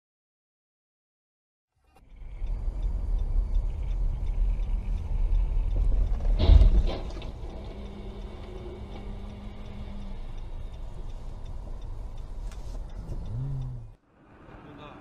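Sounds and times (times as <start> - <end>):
road noise inside car: 1.8 - 15.0
faint regular ticking: 2.0 - 14.0.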